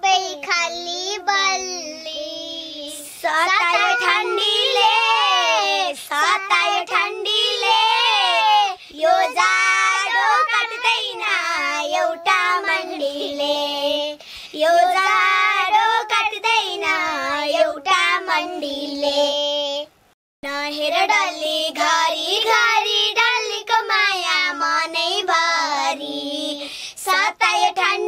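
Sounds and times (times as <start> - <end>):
girls singing together: 1.3 - 19.9, 20.7 - 28.0.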